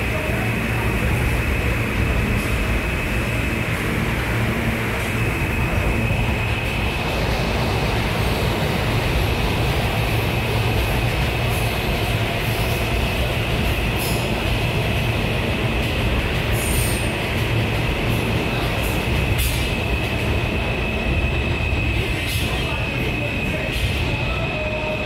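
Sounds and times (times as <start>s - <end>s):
subway train wheels rumbling: 0.0s - 25.0s.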